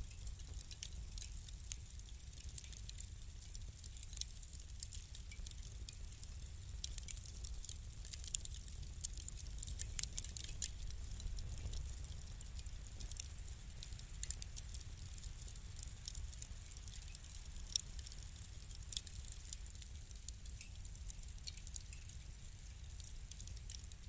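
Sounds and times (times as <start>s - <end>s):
low steady rumble: 0.0s - 2.3s, 4.4s - 23.6s
wood fire crackling: 0.0s - 24.0s.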